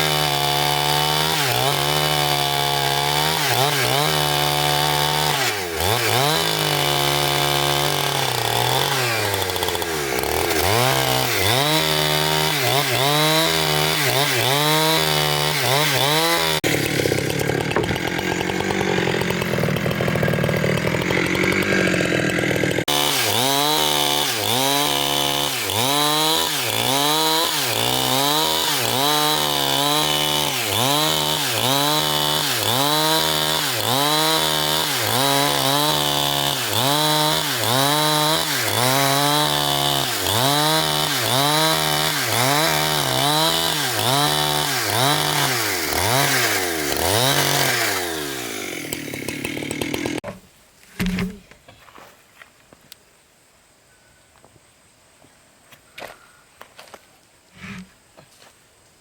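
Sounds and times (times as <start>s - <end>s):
chainsaw cutting log: 0.0s - 50.4s.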